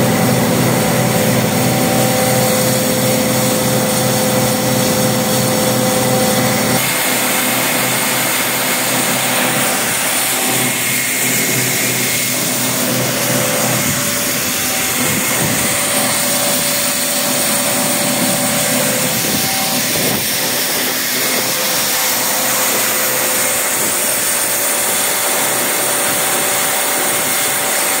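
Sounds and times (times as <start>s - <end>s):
grain vacuum air rushing: 0.0s - 28.0s
steady whining tones: 0.0s - 28.0s
low hum: 0.1s - 24.8s.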